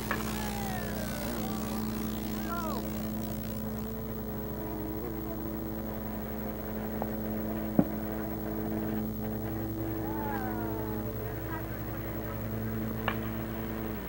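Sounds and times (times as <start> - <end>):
low hum with pitched tones: 0.0 - 14.0.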